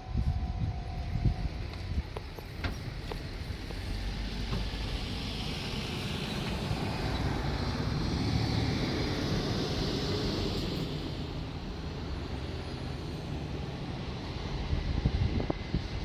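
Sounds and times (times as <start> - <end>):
passing vehicle rumble: 0.0 - 16.0.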